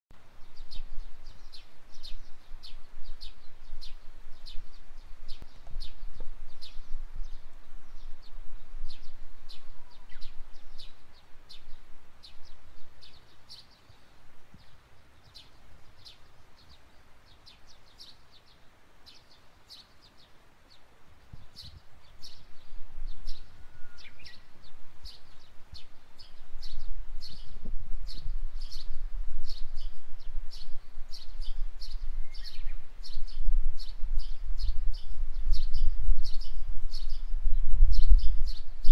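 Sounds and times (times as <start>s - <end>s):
wild birds chirping: 0.2s - 38.9s.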